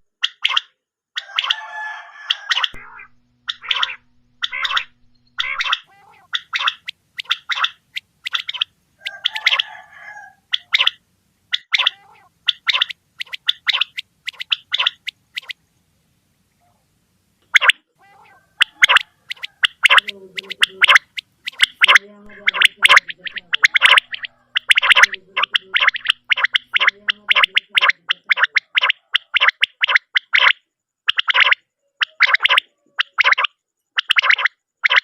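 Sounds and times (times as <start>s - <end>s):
quail calling: 0.0s - 15.7s, 16.5s - 35.0s
rough buzzy bird call: 0.2s - 15.9s, 16.5s - 35.0s.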